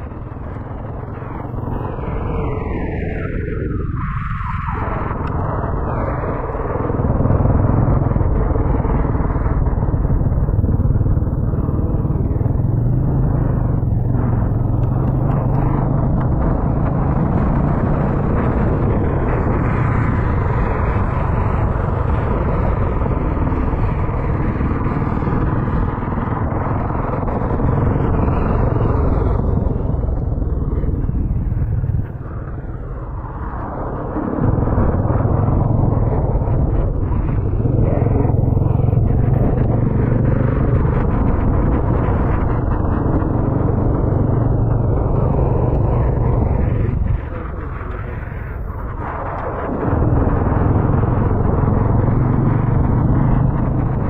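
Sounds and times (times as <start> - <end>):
motorcycle engine running: 0.0 - 3.8, 4.7 - 54.0
wind and road noise: 0.0 - 54.0.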